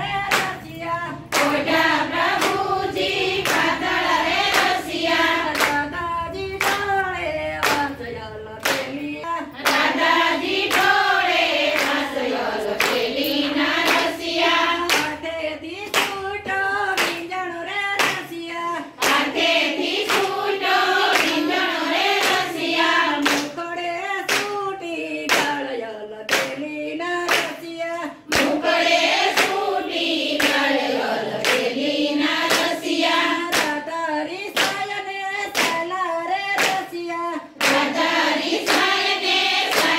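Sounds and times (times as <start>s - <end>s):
hands clapping to a beat: 0.0s - 39.9s
women singing together: 0.0s - 39.9s.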